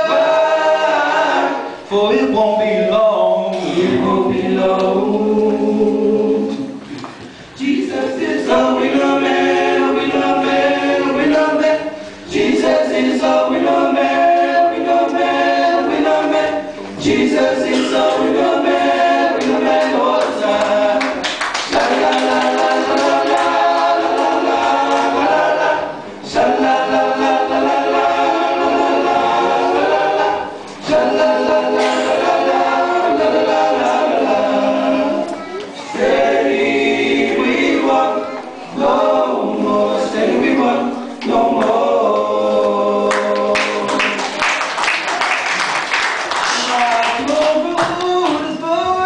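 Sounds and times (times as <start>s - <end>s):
male a cappella group singing: 0.0s - 35.3s, 35.9s - 44.3s, 46.5s - 49.0s.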